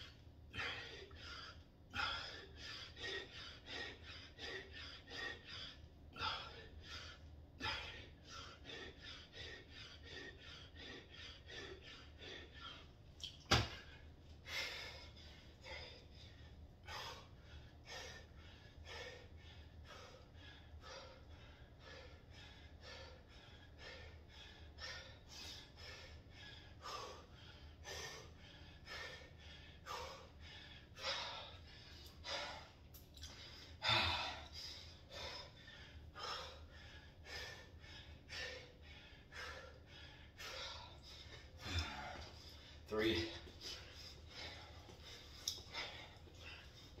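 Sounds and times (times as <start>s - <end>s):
man breathing hard: 0.0s - 47.0s.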